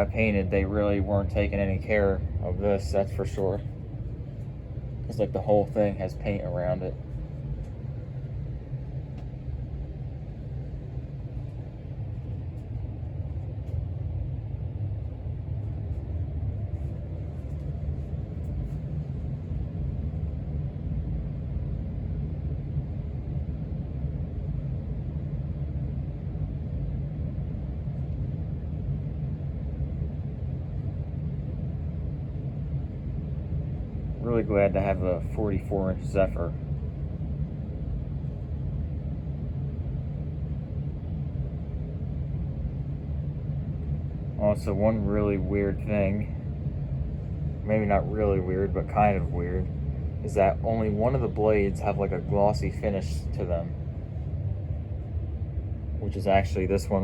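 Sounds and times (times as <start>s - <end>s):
ceiling fan running: 0.0s - 57.0s.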